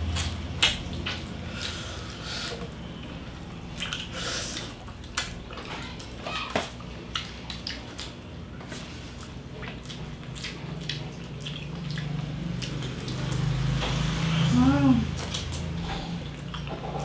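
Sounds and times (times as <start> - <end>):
wet chewing and smacking: 0.0 - 1.9, 2.6 - 14.3, 15.1 - 17.0.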